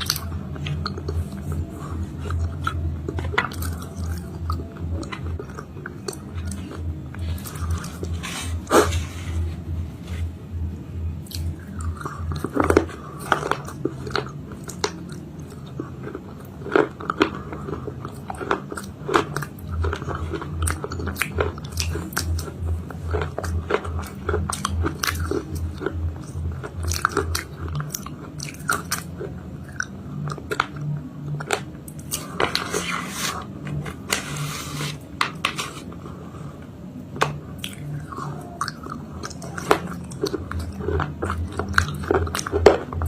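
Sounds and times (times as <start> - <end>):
biting and chewing: 0.0 - 9.4, 11.2 - 36.0, 37.2 - 43.0.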